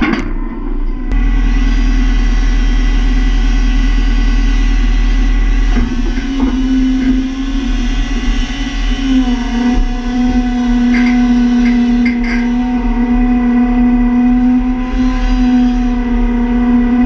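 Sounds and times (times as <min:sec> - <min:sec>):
forestry machine engine and hydraulics: 0:00.0 - 0:17.0.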